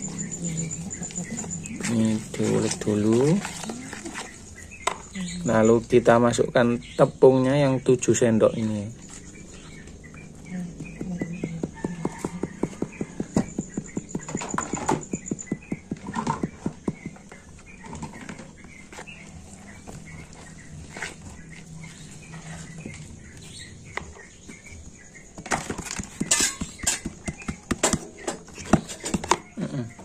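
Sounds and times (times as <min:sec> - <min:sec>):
small birds chirping faintly: 0:00.0 - 0:30.0.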